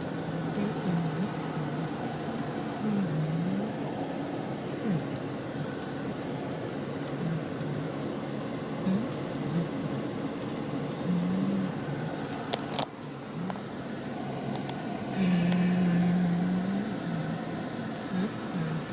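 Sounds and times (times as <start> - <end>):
car cabin road and engine noise: 0.0 - 18.9.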